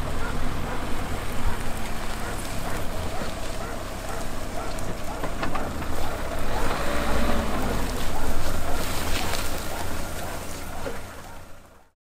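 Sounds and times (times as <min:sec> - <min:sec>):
car engine rumbling: 0:00.0 - 0:11.9.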